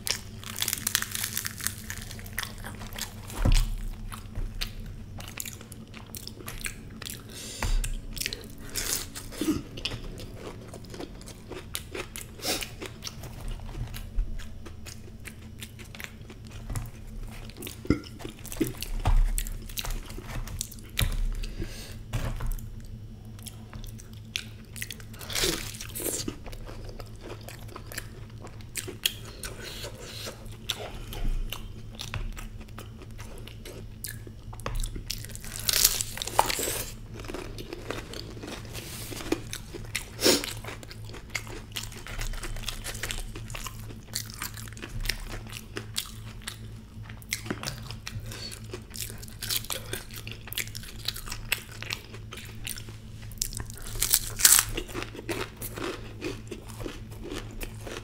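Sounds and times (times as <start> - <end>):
chewing and crunching food: 0.0 - 58.0
steady low hum: 0.0 - 58.0.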